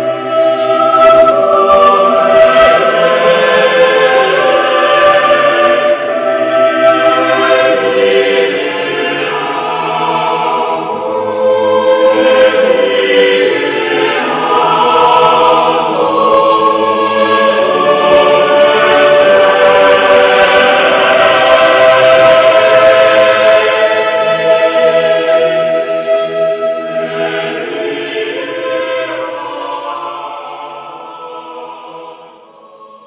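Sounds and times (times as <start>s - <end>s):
choir singing long chords: 0.0s - 33.0s.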